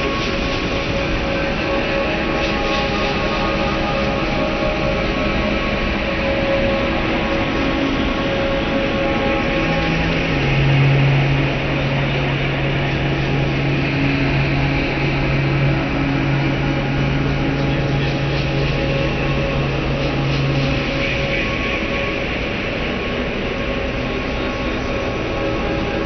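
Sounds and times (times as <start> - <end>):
low hum: 0.0 - 26.0
rushing noise: 0.0 - 26.0.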